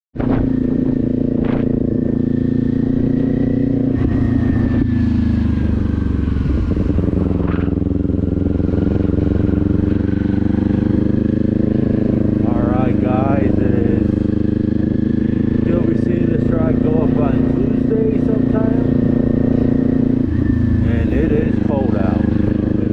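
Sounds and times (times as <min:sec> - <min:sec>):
motorcycle engine running: 0:00.2 - 0:22.9.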